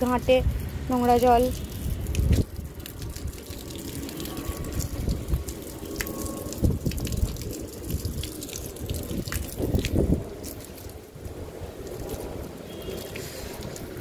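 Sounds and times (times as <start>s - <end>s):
small water splashes: 0.0s - 14.0s
water running from a hose: 0.0s - 14.0s.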